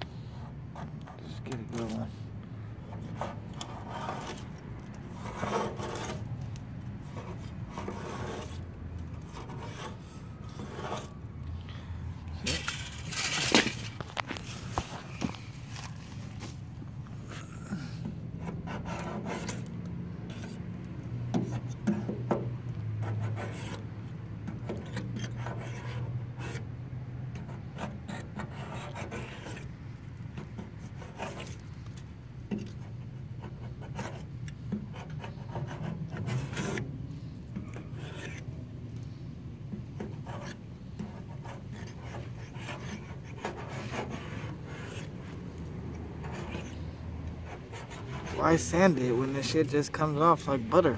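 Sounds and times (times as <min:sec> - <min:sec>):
scraper rasping on steel panel: 0:02.8 - 0:06.4, 0:07.0 - 0:11.3, 0:17.2 - 0:50.9.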